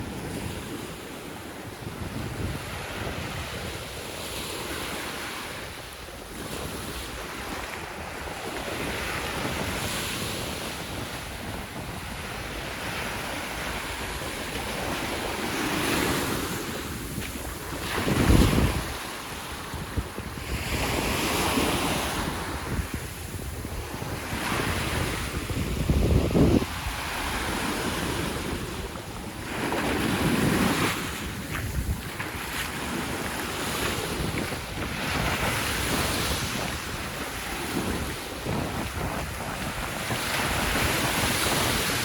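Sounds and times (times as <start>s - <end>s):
waves breaking on sandy shore: 0.0s - 42.0s
wind on microphone: 0.0s - 42.0s.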